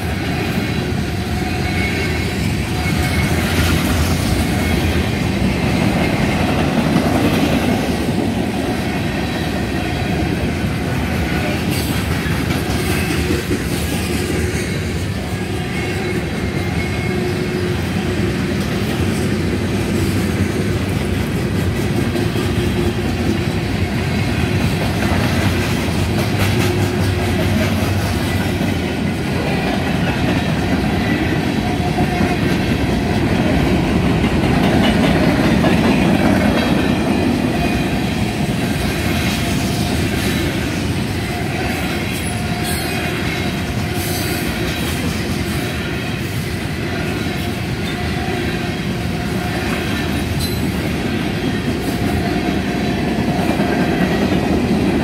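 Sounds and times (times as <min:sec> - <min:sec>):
train wheels clacking on rails: 0:00.0 - 0:55.0.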